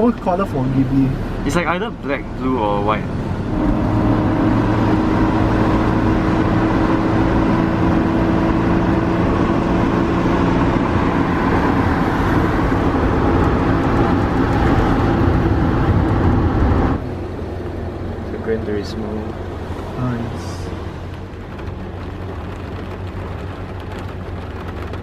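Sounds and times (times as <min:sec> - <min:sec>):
car engine humming: 0:00.0 - 0:25.0
road noise hiss: 0:00.0 - 0:25.0.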